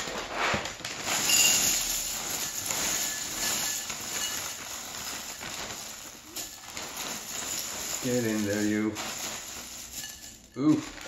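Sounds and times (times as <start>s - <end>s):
cereal pouring into glass bowl: 0.0s - 11.0s.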